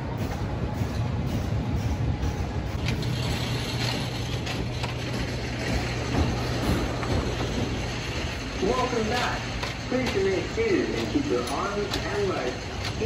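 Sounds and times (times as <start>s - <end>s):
roller coaster train rumbling: 0.0s - 13.0s
steady low hum: 0.0s - 13.0s.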